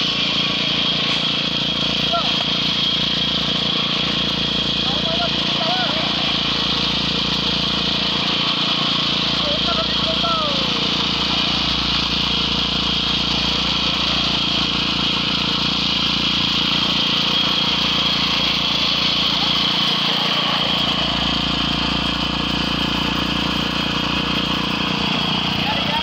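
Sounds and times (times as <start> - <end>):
concrete vibrator motor hum: 0.0 - 26.0.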